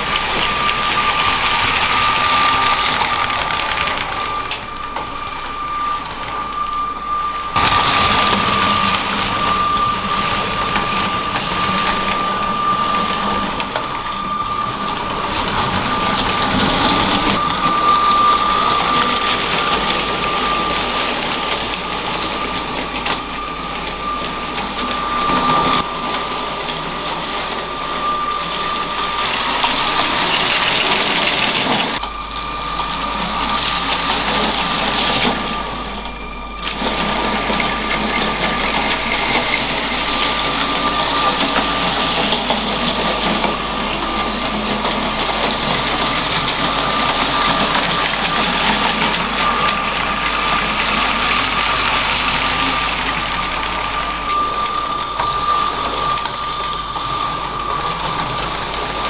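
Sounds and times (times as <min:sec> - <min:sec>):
wheels rattling over plastic track: 0:00.0 - 0:06.6, 0:07.5 - 0:59.0
small electric motor whining: 0:00.0 - 0:59.0.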